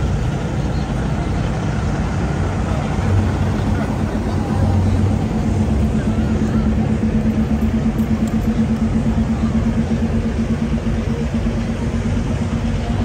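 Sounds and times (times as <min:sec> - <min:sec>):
engine droning hum: 0:00.0 - 0:13.0.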